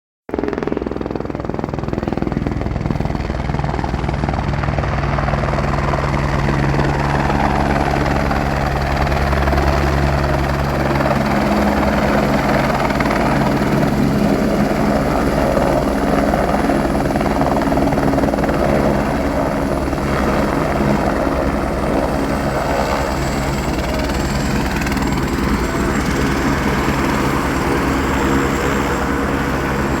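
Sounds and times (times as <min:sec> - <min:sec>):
helicopter rotor and turbine whine: 0:00.3 - 0:30.0.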